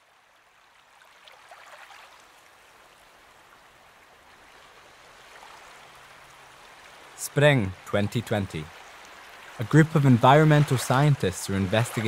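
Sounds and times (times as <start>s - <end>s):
faint wash of water: 0.0s - 12.0s.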